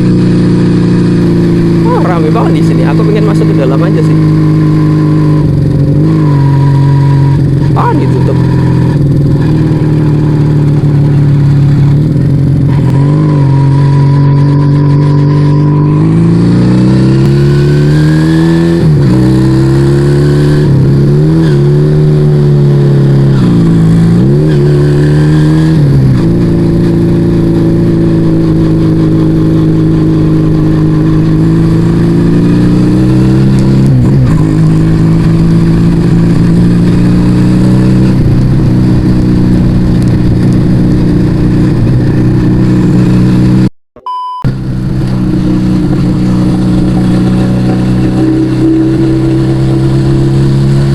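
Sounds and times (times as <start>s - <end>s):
motorcycle engine running: 0.0s - 43.7s, 44.4s - 50.9s.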